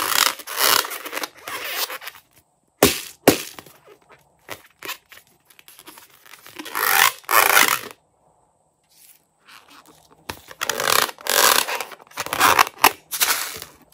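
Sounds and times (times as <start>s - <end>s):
rubber balloon rustling: 0.0s - 8.0s, 8.9s - 13.9s.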